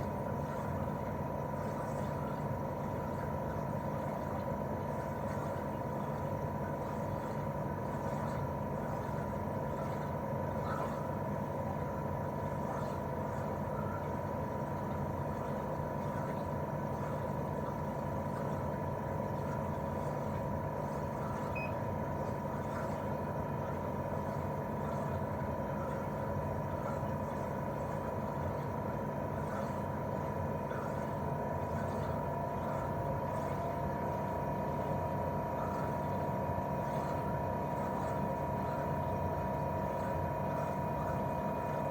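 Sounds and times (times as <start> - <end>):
air conditioner unit humming: 0.0 - 41.9.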